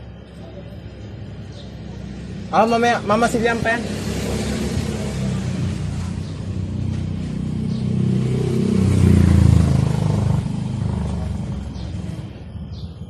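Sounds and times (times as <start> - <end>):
vehicle engine running: 0.1 - 12.6.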